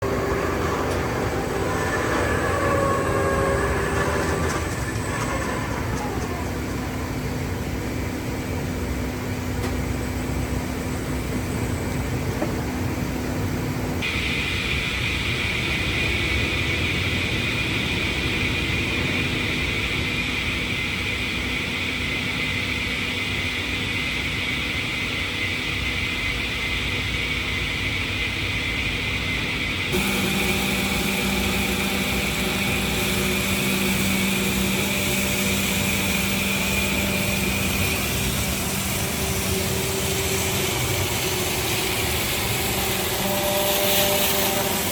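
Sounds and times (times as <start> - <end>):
heavy machinery running: 0.0 - 44.9.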